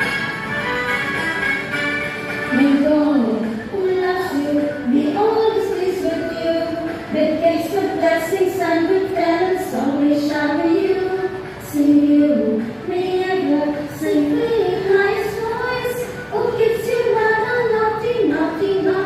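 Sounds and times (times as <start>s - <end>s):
women singing together: 2.5s - 19.0s.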